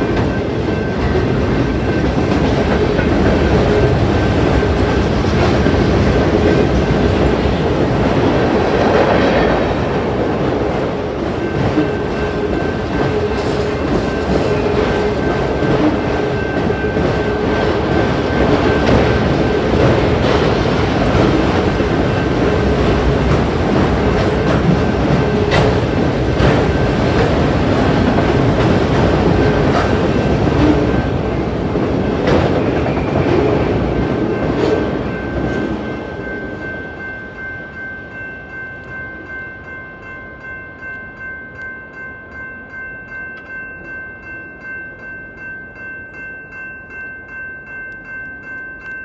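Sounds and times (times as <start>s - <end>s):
freight train cars rumbling past: 0.0s - 41.3s
crossing bells ringing: 0.0s - 49.0s.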